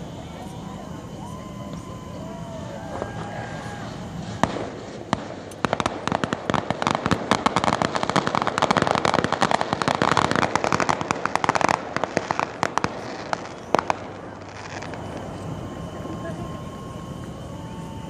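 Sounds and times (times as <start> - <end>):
fireworks crackling pops: 0.0 - 18.0.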